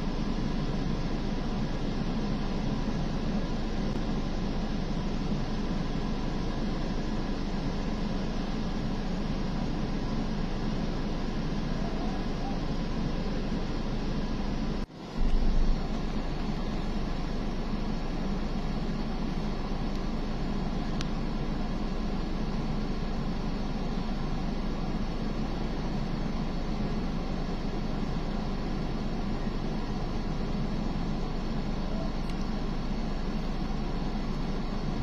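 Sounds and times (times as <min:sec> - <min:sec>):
low drone and hiss in car: 0:00.0 - 0:35.0.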